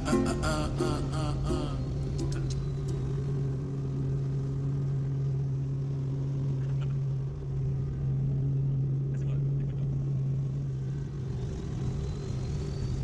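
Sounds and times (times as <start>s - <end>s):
helicopter drone: 0.0s - 13.0s.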